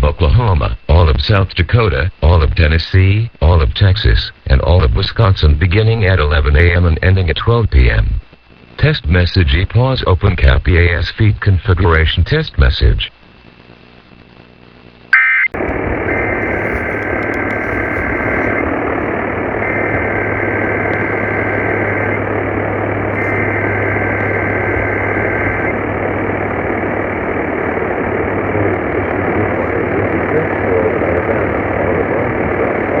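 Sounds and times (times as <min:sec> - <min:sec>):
radio static with low hum: 0:00.0 - 0:33.0.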